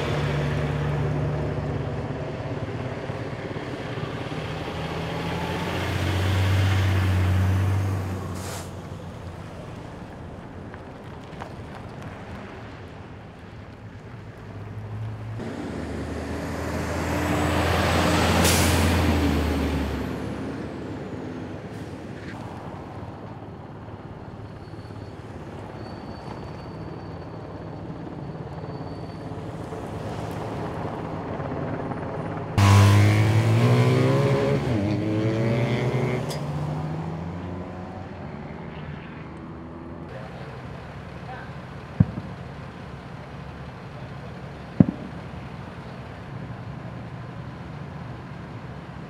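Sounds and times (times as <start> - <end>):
vehicles driving past: 0.0 - 49.0.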